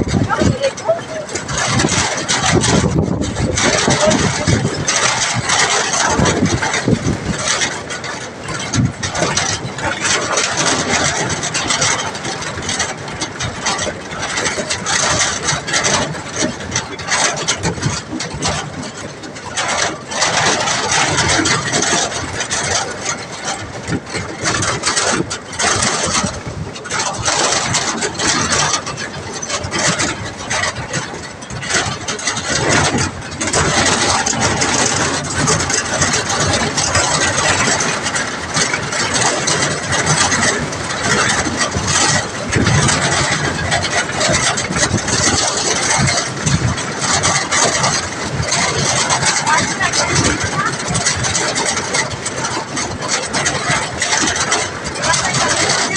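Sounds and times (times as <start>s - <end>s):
loud noisy rush: 0.0s - 55.9s
road and wind noise: 0.0s - 55.9s
vehicle engine running: 0.0s - 55.9s.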